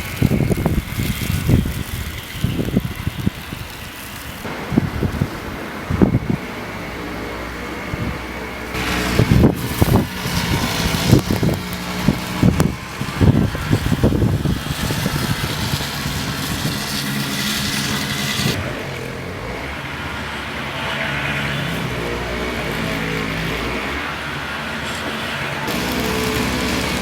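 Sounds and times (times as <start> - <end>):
wind gusting against microphone: 0.0 - 27.0
wind-driven snow hiss: 0.0 - 27.0.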